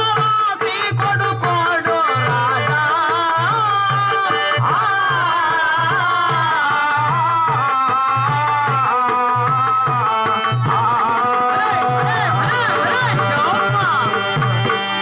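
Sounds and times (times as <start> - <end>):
drum beating: 0.0 - 15.0.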